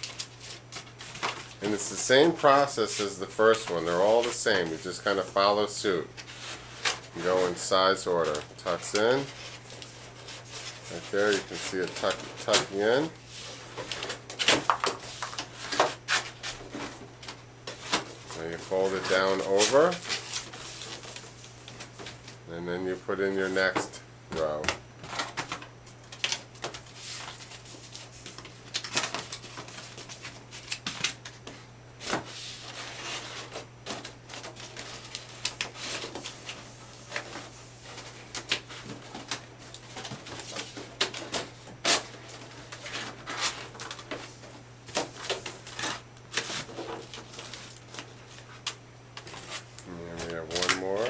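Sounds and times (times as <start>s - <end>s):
cardboard rustling and scraping: 0.0s - 22.4s, 23.1s - 51.0s
steady low hum: 0.0s - 51.0s.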